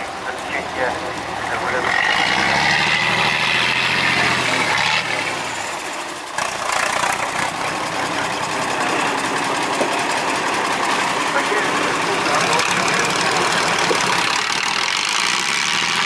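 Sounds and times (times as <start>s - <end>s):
harsh noisy engine: 0.0s - 16.0s
truck diesel engine running: 0.0s - 16.0s.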